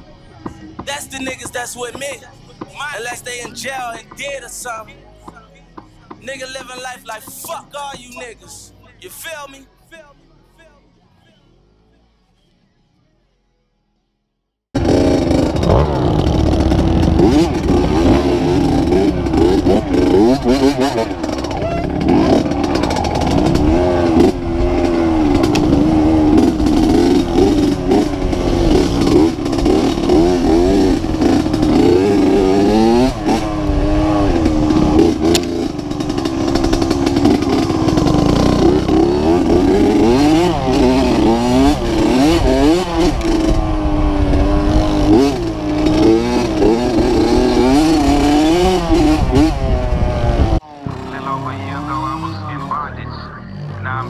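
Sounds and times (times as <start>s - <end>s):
dirt bike engine revving: 0.4s - 9.8s, 14.8s - 54.0s.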